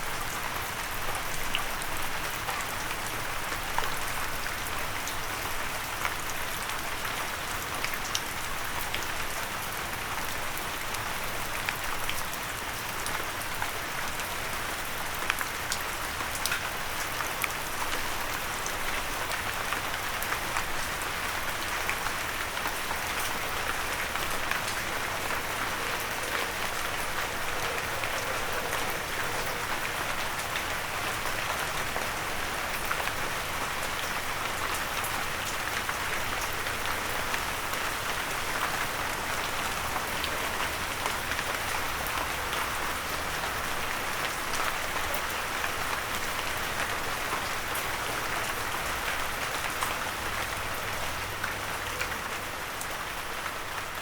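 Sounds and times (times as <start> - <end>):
rain pattering on a windowsill: 0.0 - 54.0.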